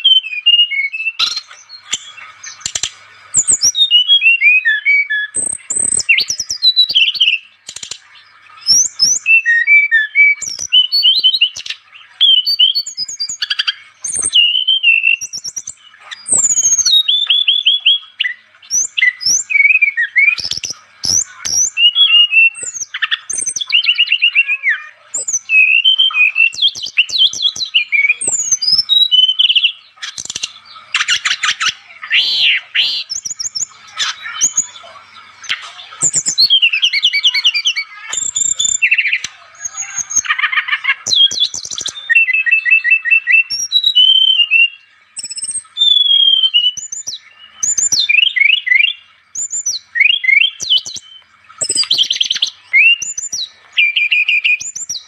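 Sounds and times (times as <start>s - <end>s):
bird singing whistled trills: 0.0s - 55.0s.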